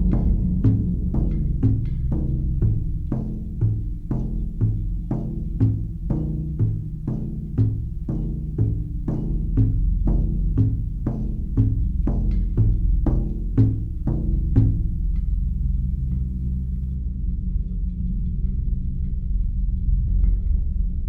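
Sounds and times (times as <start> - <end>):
low drum beat: 0.0 - 17.0.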